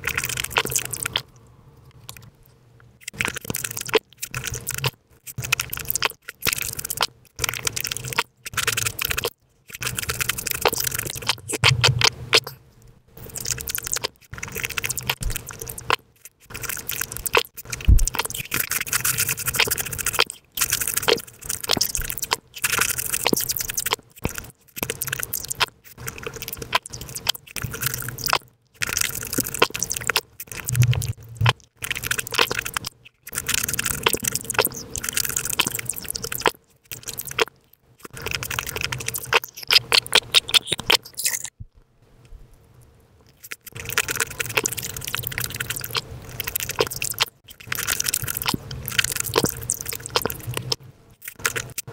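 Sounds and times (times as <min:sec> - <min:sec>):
person chewing juicy food: 0:00.0 - 0:12.6, 0:13.2 - 0:41.6, 0:43.2 - 0:51.9.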